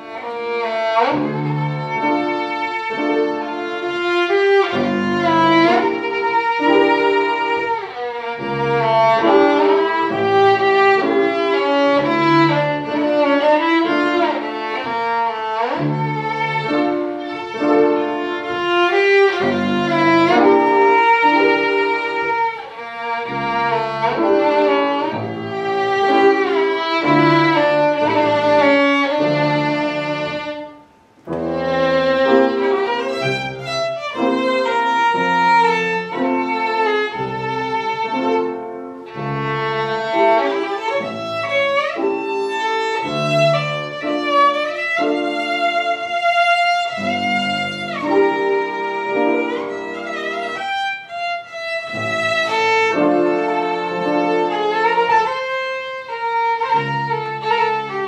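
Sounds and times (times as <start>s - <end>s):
piano accompaniment: 0.0s - 58.0s
violin playing: 0.0s - 58.0s.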